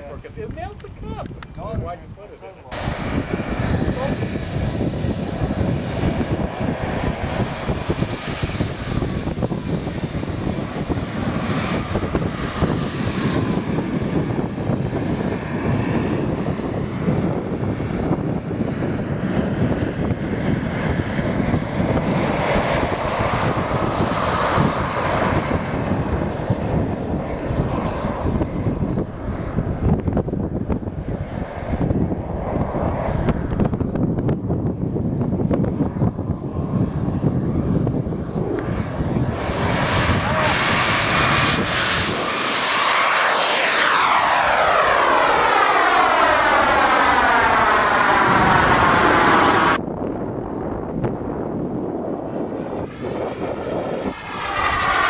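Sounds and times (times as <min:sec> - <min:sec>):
model turbojet engine running: 0:02.7 - 0:55.0.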